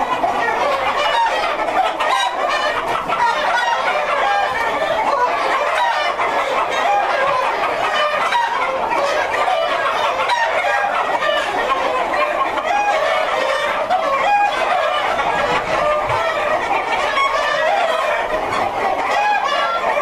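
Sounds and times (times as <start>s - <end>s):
chickens clucking and calling: 0.0s - 20.0s.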